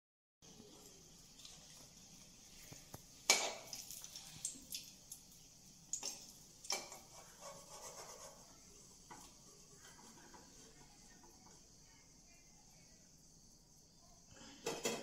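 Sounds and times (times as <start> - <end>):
food deep-frying in oil: 0.4 - 15.0.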